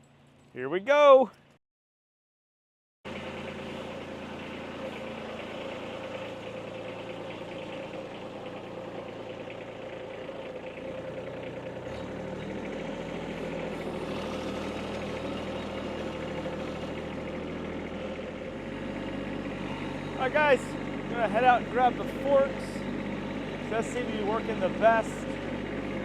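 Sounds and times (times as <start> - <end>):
tractor engine running: 3.1 - 26.0.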